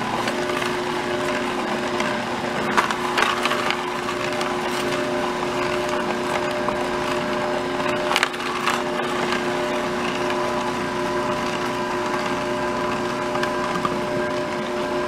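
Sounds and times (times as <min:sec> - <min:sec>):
electric juicer motor hum: 0:00.0 - 0:15.0
fruit pieces grinding: 0:00.0 - 0:15.0.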